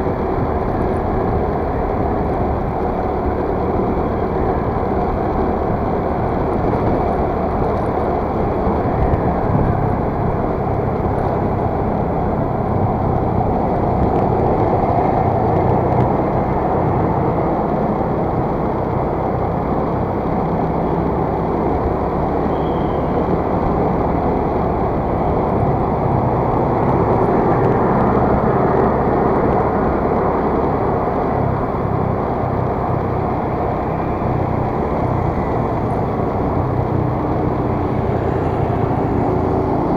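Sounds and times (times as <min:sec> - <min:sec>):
small scooter engine cruising: 0:00.0 - 0:39.9
wind noise: 0:00.0 - 0:39.9.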